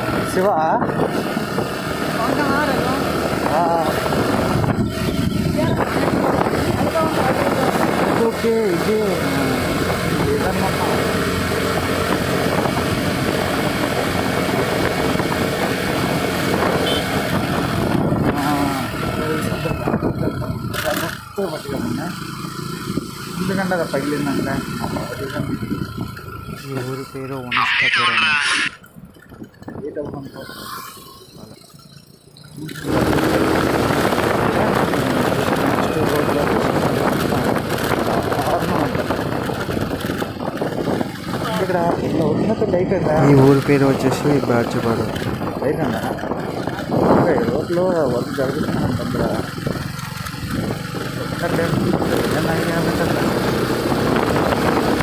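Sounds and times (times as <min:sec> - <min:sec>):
motorcycle engine running: 0:00.0 - 0:27.5, 0:28.8 - 0:55.0
wind and road noise: 0:00.0 - 0:55.0.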